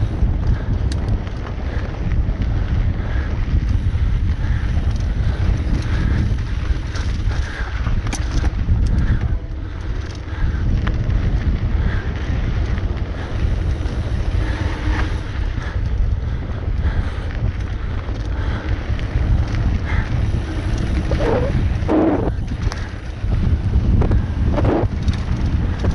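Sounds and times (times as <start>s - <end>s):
bike clicks and rattles: 0.0s - 25.9s
tyres rumbling on dirt: 0.0s - 25.9s
wind rushing over microphone: 0.0s - 25.9s.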